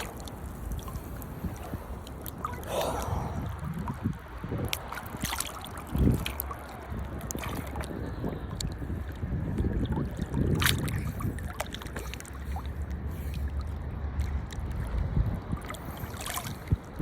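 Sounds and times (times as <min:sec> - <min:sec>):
ocean water: 0:00.0 - 0:17.0
wind buffeting microphone: 0:00.0 - 0:17.0.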